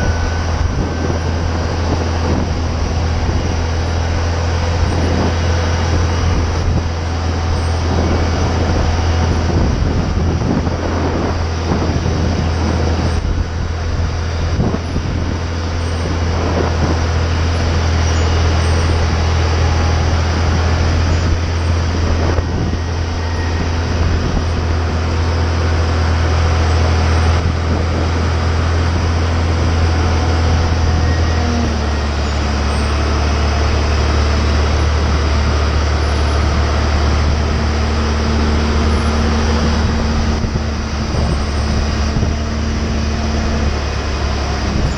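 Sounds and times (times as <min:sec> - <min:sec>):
machinery droning: 0:00.0 - 0:44.9.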